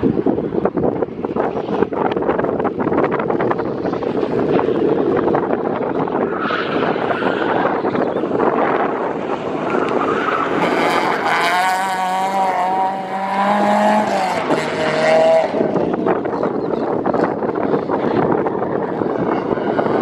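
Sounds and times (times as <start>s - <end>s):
tyre and road noise: 0.0s - 20.0s
car engine at high revs: 1.4s - 20.0s.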